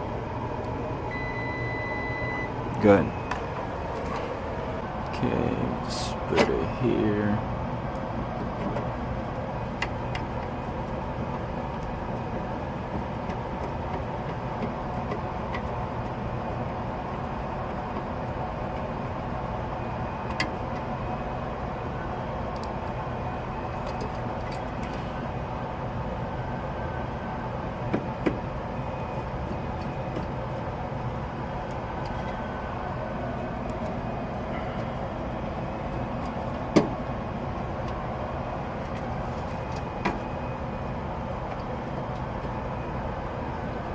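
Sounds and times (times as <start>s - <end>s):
machine running with low hum: 0.0s - 43.9s.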